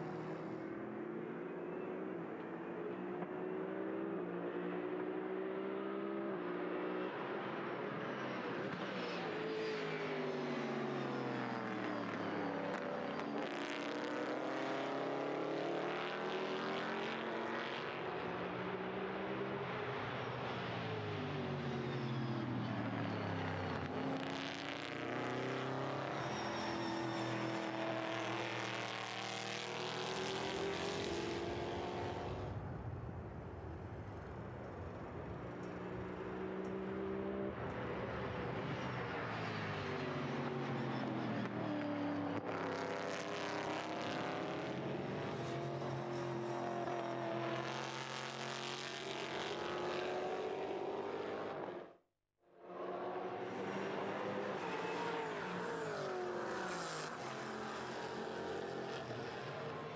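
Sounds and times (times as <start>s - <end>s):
race car engines at full throttle: 0.0s - 59.9s.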